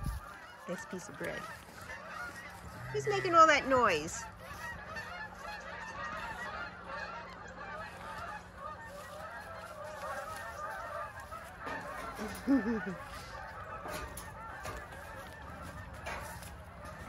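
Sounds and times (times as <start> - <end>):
geese honking: 0.0 - 17.0
loud low goose call: 1.4 - 17.0.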